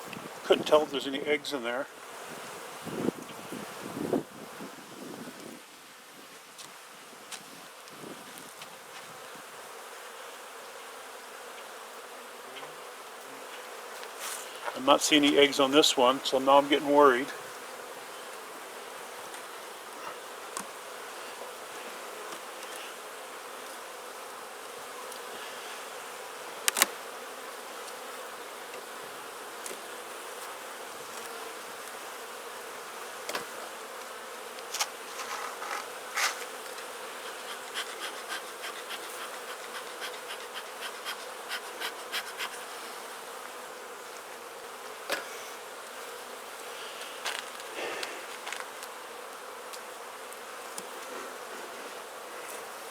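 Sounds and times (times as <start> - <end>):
honeybees humming: 0.0 - 5.6, 7.8 - 52.9.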